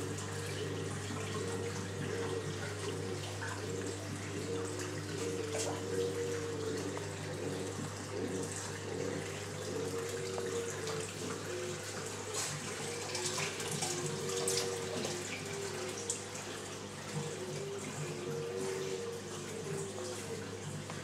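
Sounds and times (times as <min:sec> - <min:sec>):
splashing aquarium water: 0:00.0 - 0:21.0.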